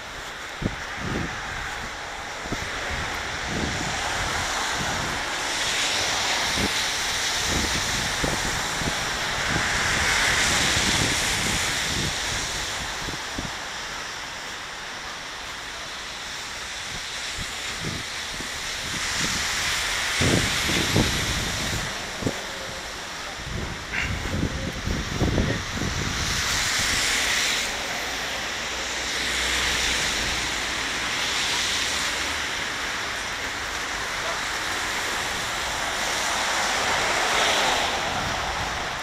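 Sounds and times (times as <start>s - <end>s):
tyre hiss on wet street: 0.0s - 39.0s.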